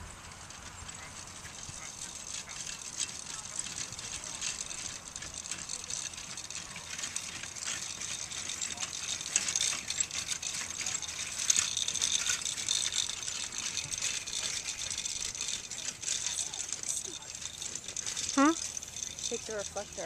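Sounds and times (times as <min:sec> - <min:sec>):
faint rattling and ticking: 0:00.0 - 0:20.0.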